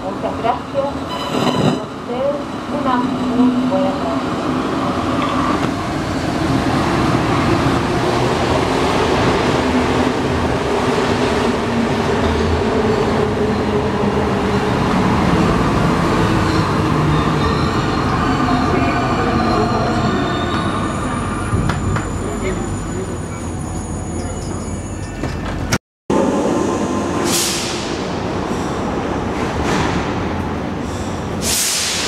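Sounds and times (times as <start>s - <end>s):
metro train running: 0.0s - 32.0s.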